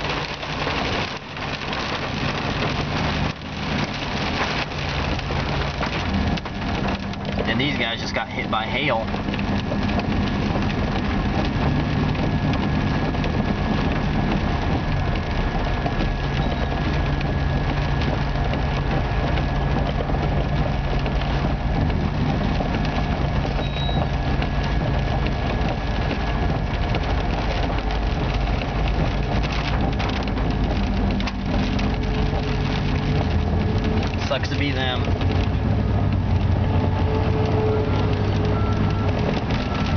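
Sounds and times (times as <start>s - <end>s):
heavy rain on windshield and roof: 0.0s - 39.9s
truck engine droning: 2.2s - 39.9s.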